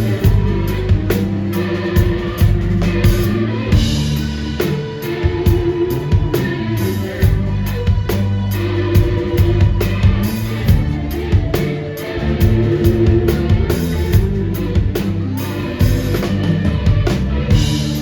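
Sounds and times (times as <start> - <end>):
drum kit beat: 0.0 - 18.0
rock band playing: 0.0 - 18.0.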